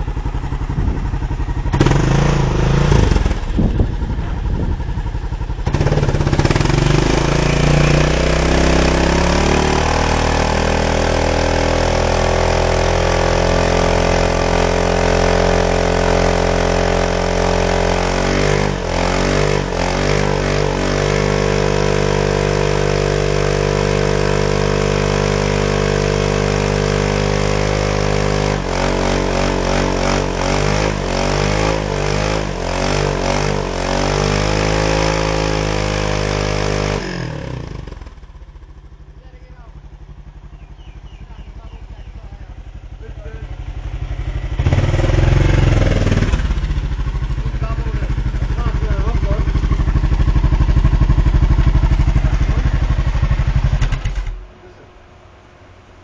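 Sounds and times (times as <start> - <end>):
motorcycle engine revving hard: 0.0 - 54.4.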